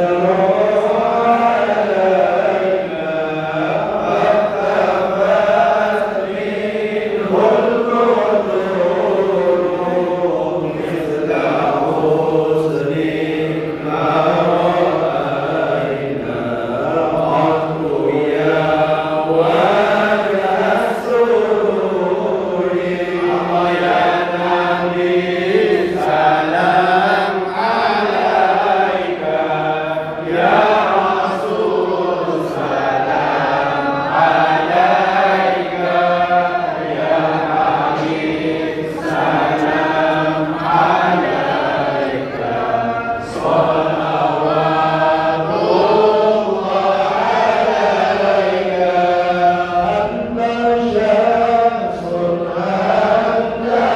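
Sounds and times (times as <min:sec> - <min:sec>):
men chanting in unison: 0:00.0 - 0:53.9.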